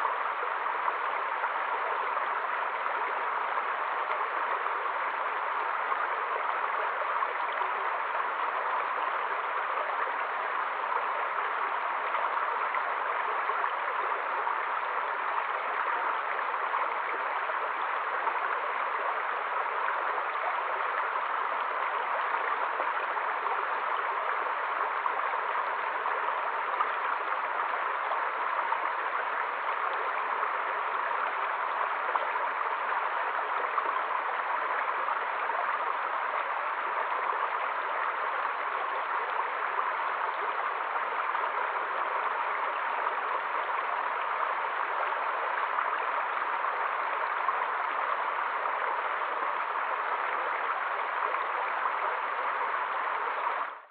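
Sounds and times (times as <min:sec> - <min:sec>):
stream flowing over rocks: 0:00.0 - 0:53.9.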